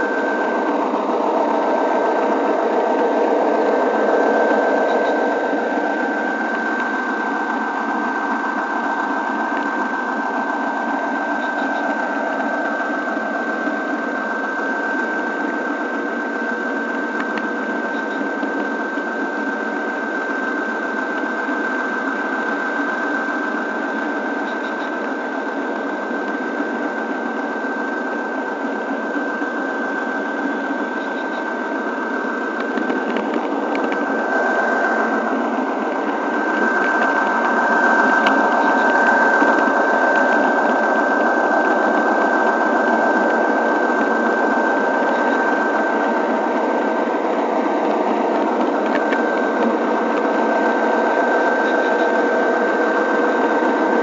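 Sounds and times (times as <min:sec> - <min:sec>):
thin steady whine: 0:00.0 - 0:54.0.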